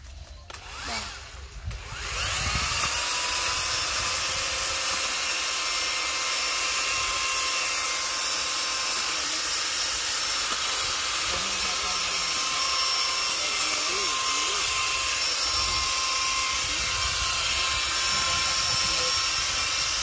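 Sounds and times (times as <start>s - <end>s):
electric pole saw whining: 0.0s - 20.0s
saw chain whirring: 0.5s - 20.0s.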